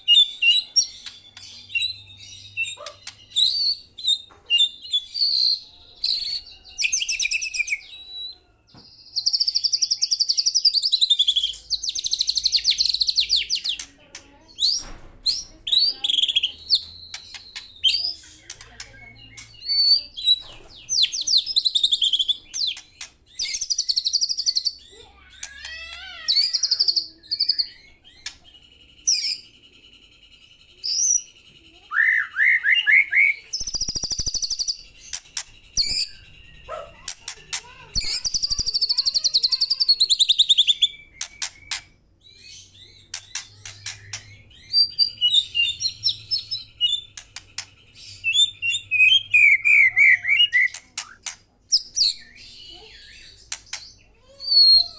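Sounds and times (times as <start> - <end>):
songbird singing trills and whistles: 0.0 - 54.9.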